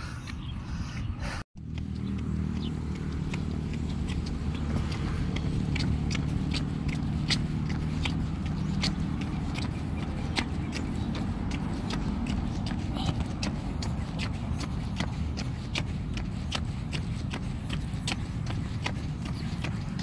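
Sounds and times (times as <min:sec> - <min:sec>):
steady low rumble: 0:00.4 - 0:20.0
footsteps on brick paving: 0:01.6 - 0:20.0.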